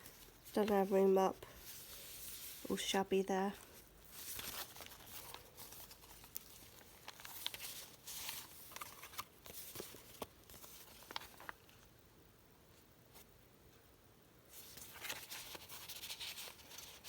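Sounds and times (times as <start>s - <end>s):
paper pages rustling and crinkling: 0.0s - 11.9s, 14.5s - 17.0s.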